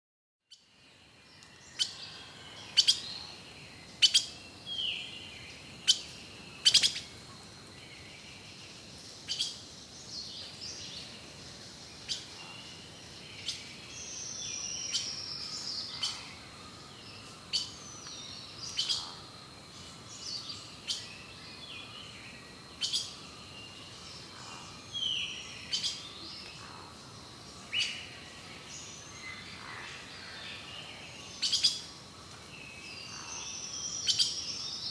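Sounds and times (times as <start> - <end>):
birds chirping: 0.5 - 34.9.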